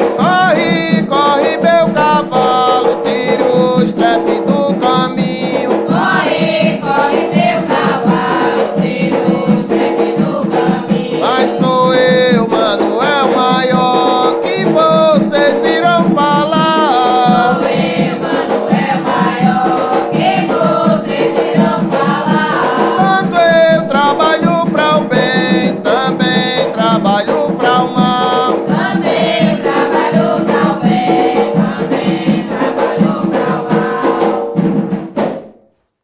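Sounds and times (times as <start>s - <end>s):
sacred song sung over drums: 0.0s - 35.5s.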